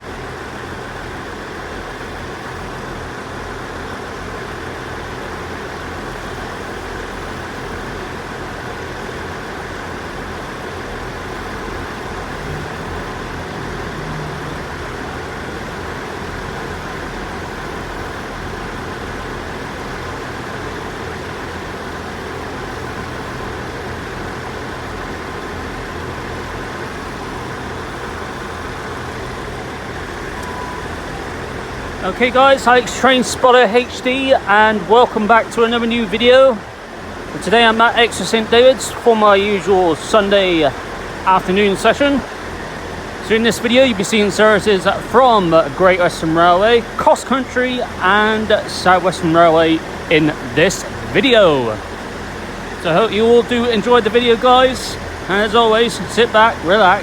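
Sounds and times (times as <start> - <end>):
diesel train engine idling: 0.0 - 57.0
faint steady whine: 0.0 - 57.0.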